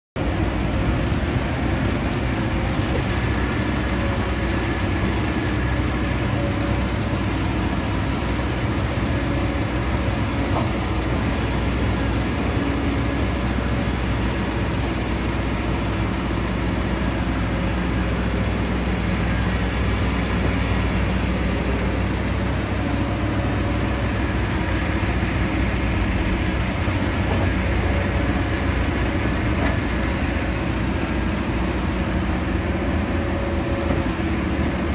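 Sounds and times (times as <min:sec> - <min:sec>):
excavator engine drone: 0:00.2 - 0:34.9.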